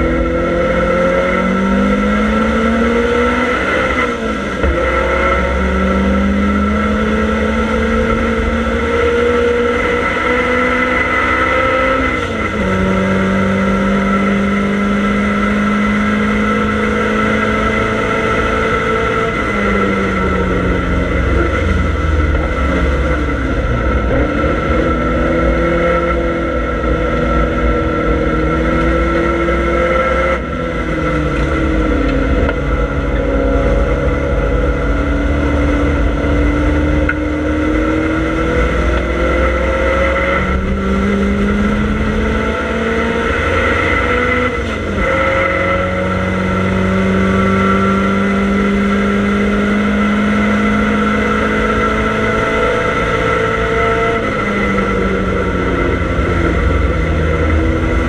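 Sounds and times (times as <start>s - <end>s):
race car engine revving: 0.0s - 58.0s
road and wind rumble: 0.0s - 58.0s.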